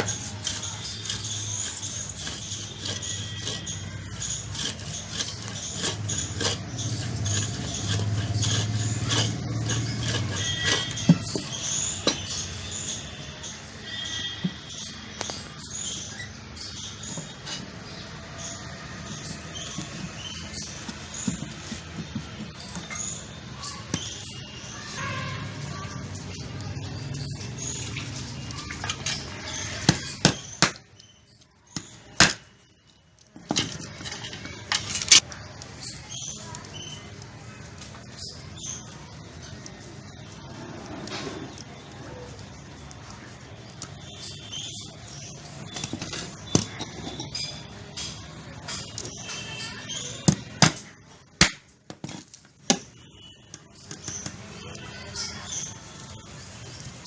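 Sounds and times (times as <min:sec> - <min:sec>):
hard objects clicking and knocking: 0:00.0 - 0:13.0, 0:19.2 - 0:24.7, 0:26.1 - 0:54.8.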